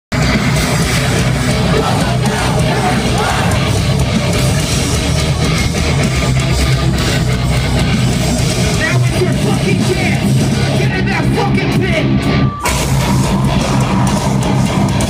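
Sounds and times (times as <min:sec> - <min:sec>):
bass guitar: 0:00.1 - 0:15.0
distorted electric guitars: 0:00.1 - 0:15.0
drums: 0:00.1 - 0:15.0.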